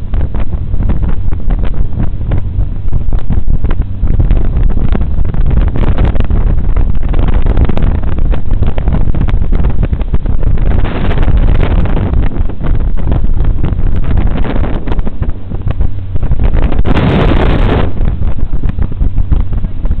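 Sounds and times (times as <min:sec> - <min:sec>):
jet boat engine: 0:00.0 - 0:20.0
wind buffeting microphone: 0:00.0 - 0:20.0.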